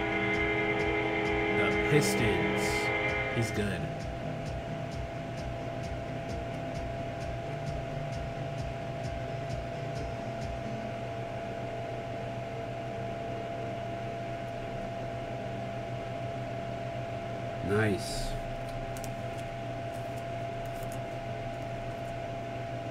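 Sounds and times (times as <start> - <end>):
electrical hum: 0.0 - 22.9
low fan-like drone: 0.0 - 22.9.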